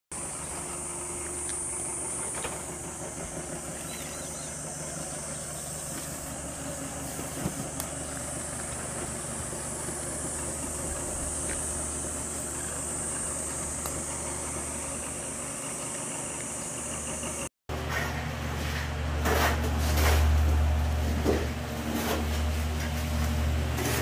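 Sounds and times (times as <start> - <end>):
low engine-like hum: 0.1 - 24.0.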